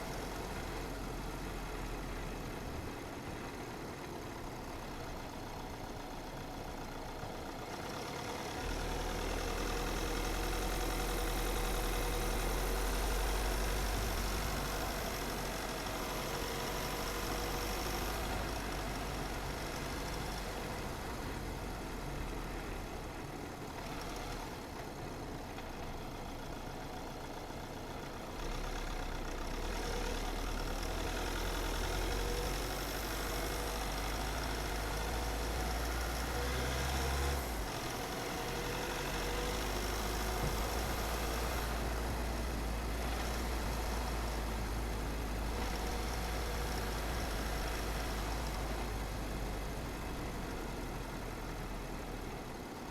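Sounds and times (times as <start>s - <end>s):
car engine and tyre rumble: 0.0s - 52.9s.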